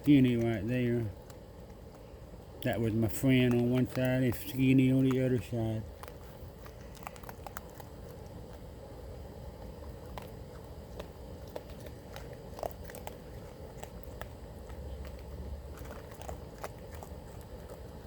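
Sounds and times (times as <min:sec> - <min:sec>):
low background rumble: 0:00.0 - 0:18.0
raccoons crunching kibble: 0:00.0 - 0:18.0.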